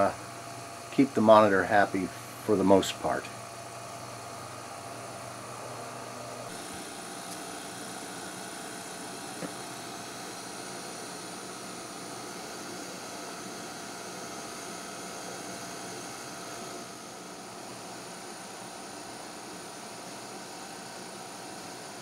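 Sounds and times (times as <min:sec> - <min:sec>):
tape machine whirring and hissing: 0:00.0 - 0:22.0.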